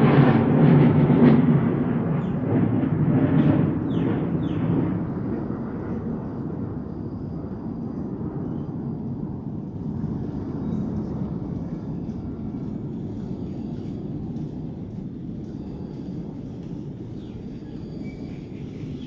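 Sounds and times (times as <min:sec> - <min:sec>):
jet rumbling overhead: 0:00.0 - 0:19.0.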